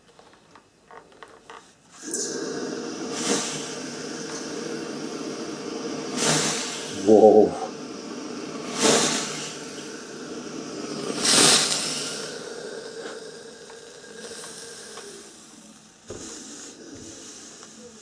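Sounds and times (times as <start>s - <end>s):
steam iron hissing: 1.8s - 18.0s.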